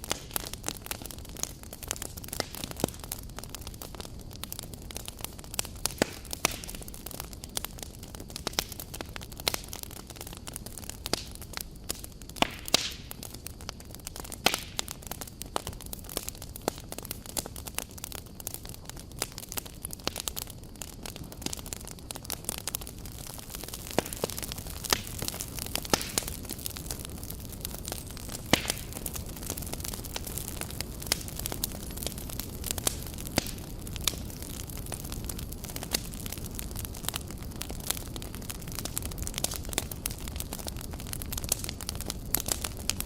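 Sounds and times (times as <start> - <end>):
campfire crackling and popping: 0.0 - 43.0
hiss of flames: 0.0 - 43.0.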